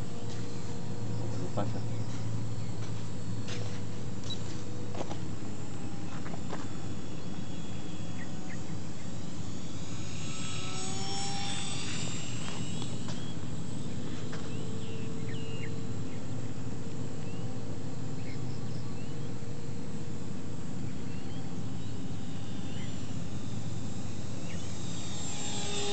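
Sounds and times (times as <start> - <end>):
model airplane propeller buzzing: 0.0 - 25.9.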